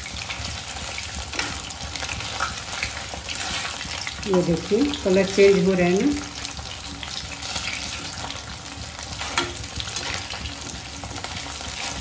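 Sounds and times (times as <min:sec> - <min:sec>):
cheese cubes sizzling in hot oil: 0:00.0 - 0:12.0
metal skimmer stirring against pan: 0:01.0 - 0:12.0.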